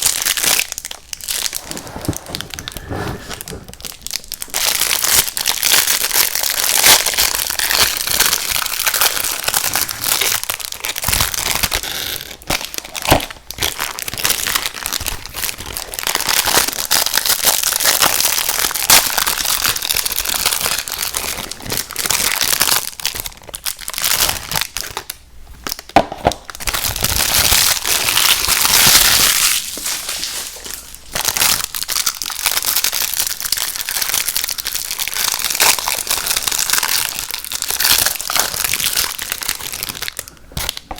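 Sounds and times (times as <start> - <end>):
plastic wrapper crinkling: 0.0 - 40.9.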